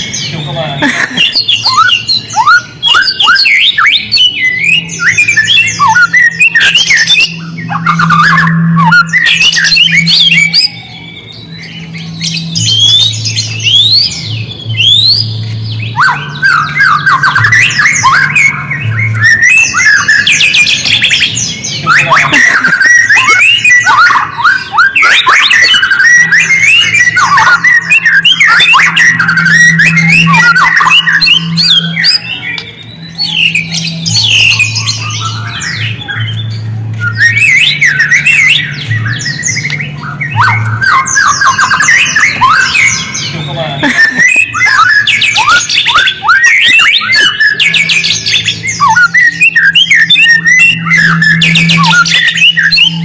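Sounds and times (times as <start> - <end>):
songbird singing whistles: 0.0 - 53.0.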